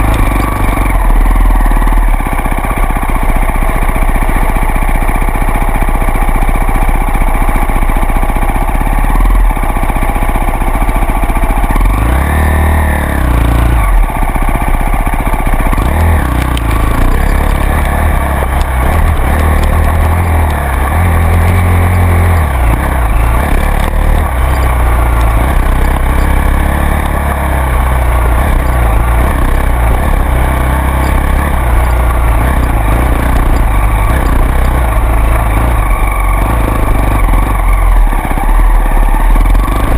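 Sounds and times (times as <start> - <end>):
off-road vehicle engine revving: 0.0 - 7.8, 8.6 - 39.9.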